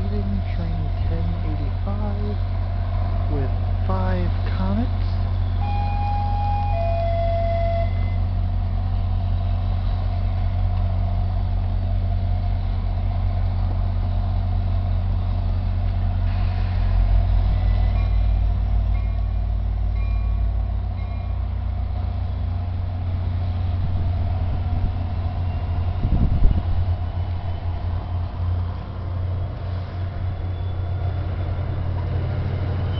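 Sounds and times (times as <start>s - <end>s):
diesel locomotive droning: 0.0s - 32.9s.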